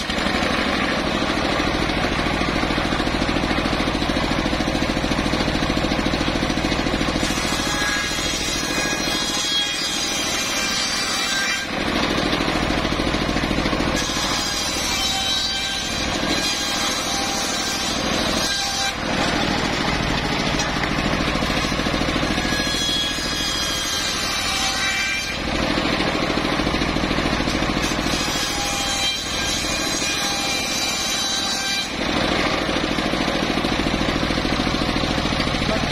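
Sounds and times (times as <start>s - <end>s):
engine running: 0.0s - 9.4s, 11.6s - 24.2s, 25.3s - 30.8s, 31.9s - 35.9s
saw blade whining through wood: 0.0s - 35.9s.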